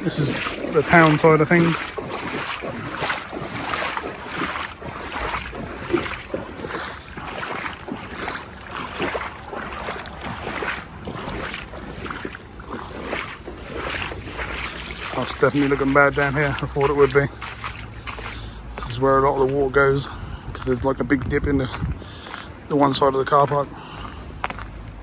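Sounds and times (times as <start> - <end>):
legs wading through water: 0.0 - 25.0.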